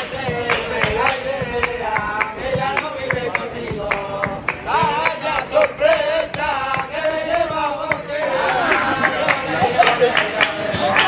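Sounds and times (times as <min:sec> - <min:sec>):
hand claps: 0:00.0 - 0:11.0
strummed acoustic guitar: 0:00.0 - 0:11.0.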